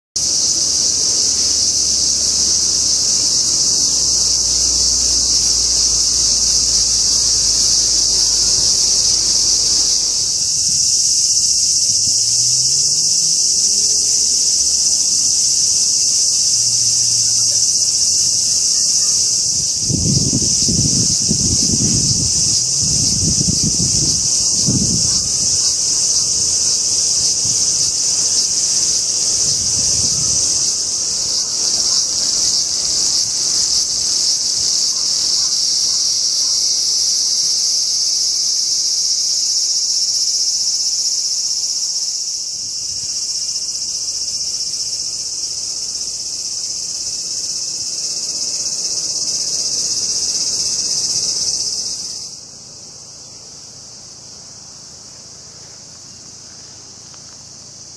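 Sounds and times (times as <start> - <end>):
high-pitched insect chorus: 0.2 - 57.9.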